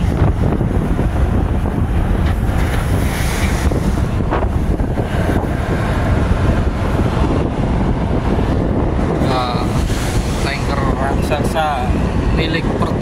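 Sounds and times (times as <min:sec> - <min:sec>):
water rushing along a hull: 0:00.0 - 0:13.0
wind buffeting the microphone: 0:00.0 - 0:13.0.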